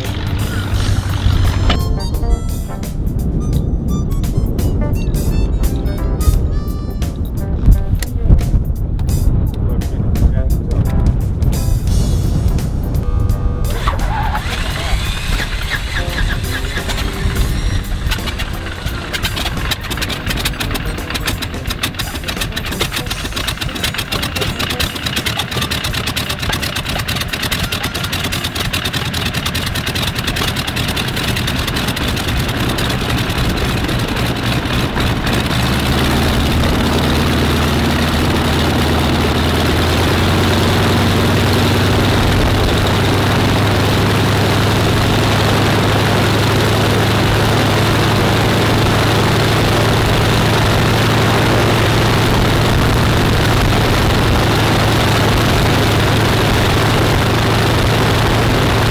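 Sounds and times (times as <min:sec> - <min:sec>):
radial aircraft engine running: 0:00.0 - 0:58.9.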